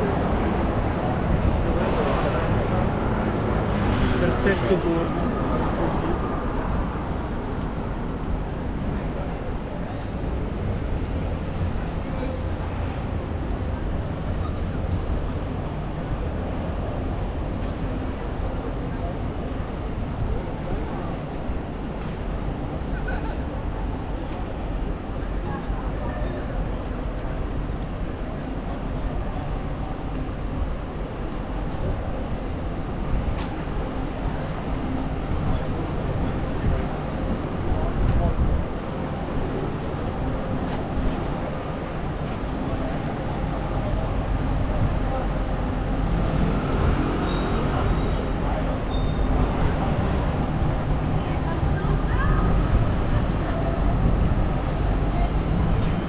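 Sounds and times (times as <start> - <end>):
faint voices: 0.0 - 56.0
traffic rumble: 0.0 - 56.0.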